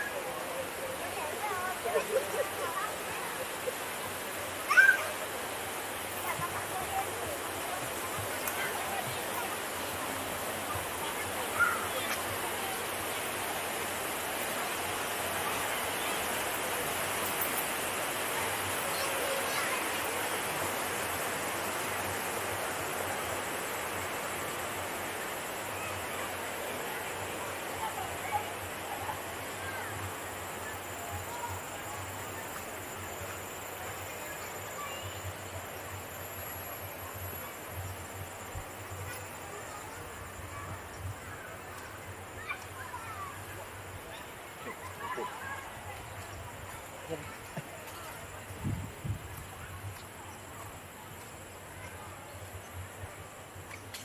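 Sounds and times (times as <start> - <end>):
river rushing over rapids: 0.0 - 53.7
insects buzzing: 0.0 - 54.0
steady hiss: 0.0 - 54.0.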